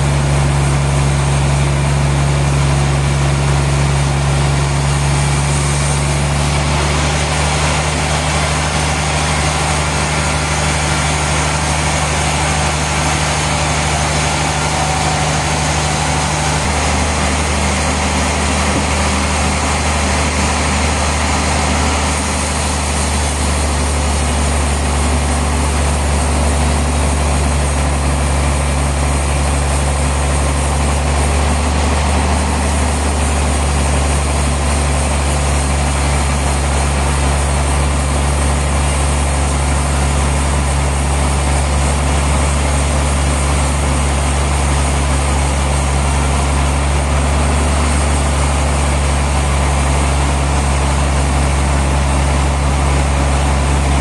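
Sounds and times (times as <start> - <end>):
heavy sawmill machinery hum: 0.0 - 54.0.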